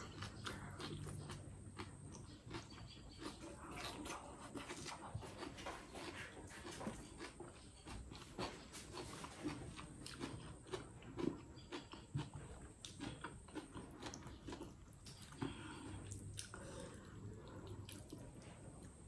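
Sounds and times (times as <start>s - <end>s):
chewing: 0.0s - 19.0s.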